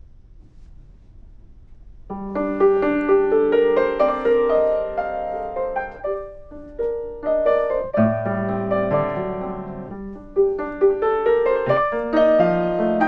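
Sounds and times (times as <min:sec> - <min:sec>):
piano melody: 0:02.1 - 0:13.0.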